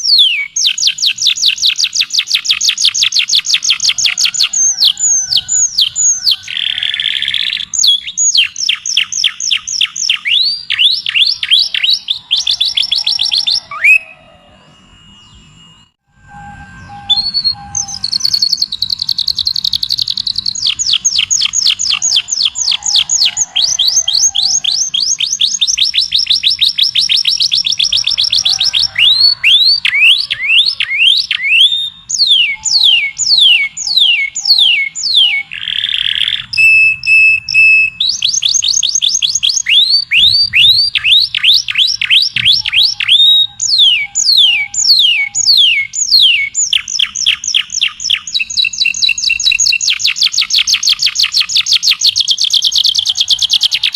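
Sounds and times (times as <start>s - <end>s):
songbird trilling: 0.0s - 16.0s, 16.6s - 53.9s.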